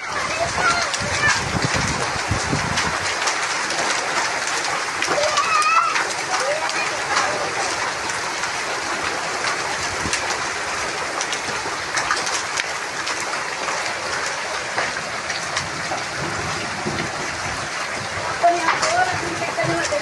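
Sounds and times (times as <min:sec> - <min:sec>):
hailstones striking hard surfaces: 0:00.0 - 0:20.0
rain hissing: 0:00.0 - 0:20.0.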